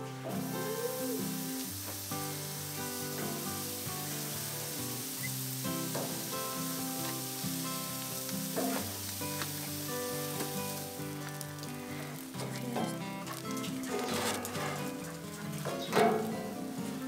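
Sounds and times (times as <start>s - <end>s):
background music: 0.0s - 17.0s
bread sizzling on grill: 0.0s - 17.0s.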